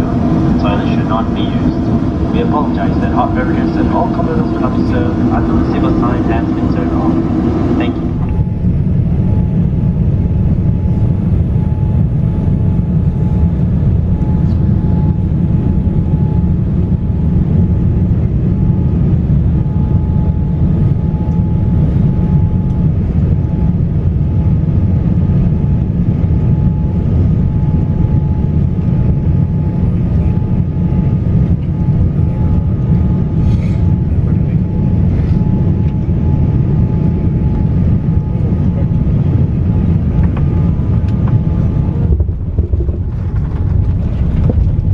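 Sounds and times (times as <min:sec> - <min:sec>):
airliner cabin rumble: 0:00.0 - 0:44.9
faint steady whine: 0:00.0 - 0:44.9.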